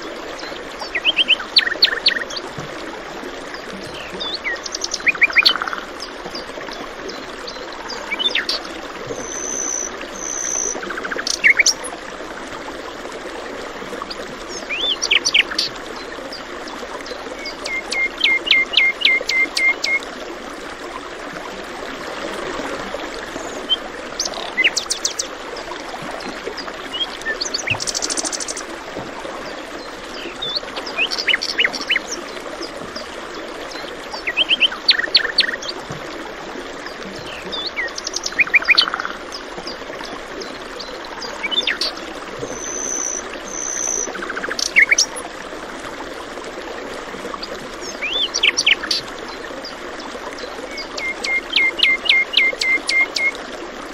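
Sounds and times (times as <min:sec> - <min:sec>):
flowing stream: 0:00.0 - 0:53.9.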